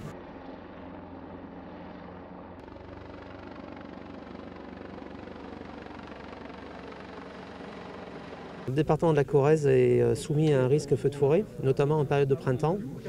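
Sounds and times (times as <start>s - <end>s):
distant helicopter drone: 0.0s - 13.0s.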